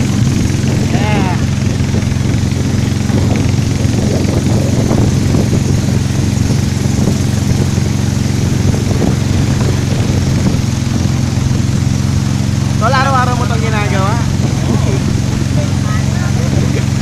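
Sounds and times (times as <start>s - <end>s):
motorboat engine running: 0.0s - 17.0s
water rushing past hull: 0.0s - 17.0s.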